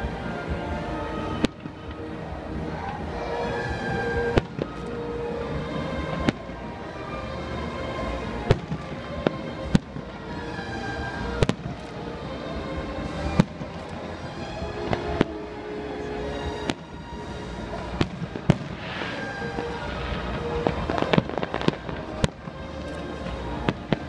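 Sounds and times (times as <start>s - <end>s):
music playing: 0.0s - 24.0s.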